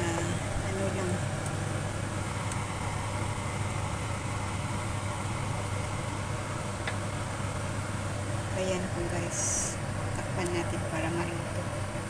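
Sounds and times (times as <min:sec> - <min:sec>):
bubbling sizzle in a wok: 0:00.0 - 0:12.0
low hum: 0:00.0 - 0:12.0.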